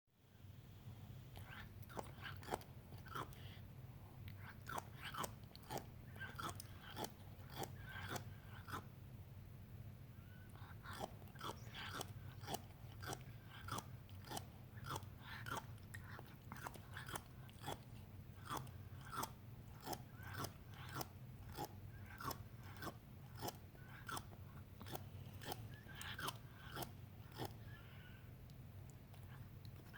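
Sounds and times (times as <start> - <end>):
low steady hum: 0.2 - 29.9
cat grinding teeth: 1.4 - 3.6, 4.3 - 9.0, 10.5 - 27.7.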